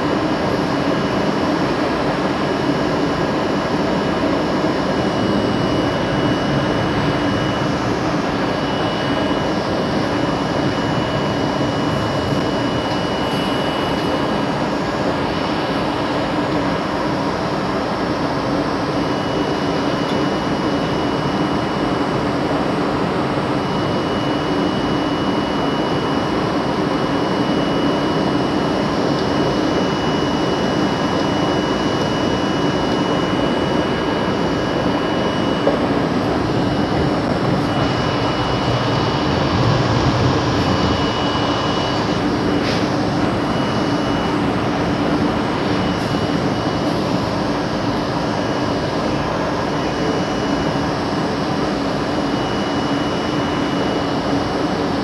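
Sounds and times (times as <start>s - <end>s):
subway train rumbling on rails: 0.0s - 55.0s.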